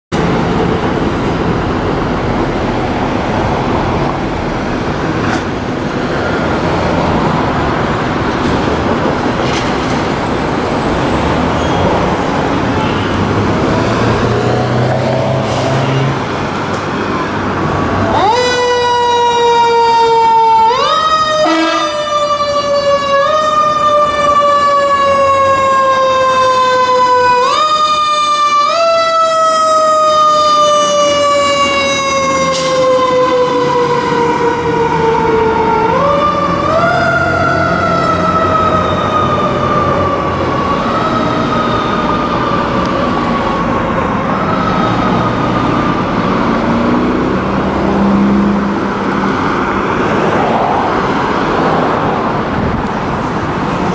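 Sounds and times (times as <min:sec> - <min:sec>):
fire engine siren wailing: 0:00.2 - 0:53.9.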